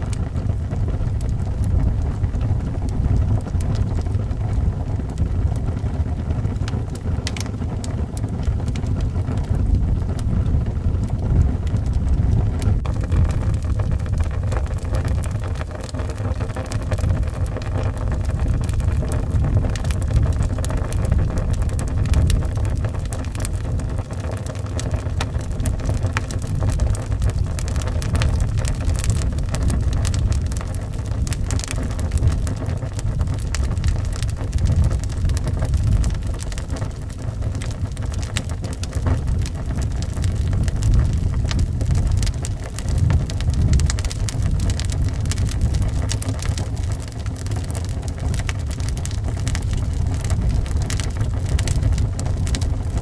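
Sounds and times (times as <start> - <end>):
howling wind rumble: 0.0 - 53.0
wood fire crackling: 0.0 - 53.0.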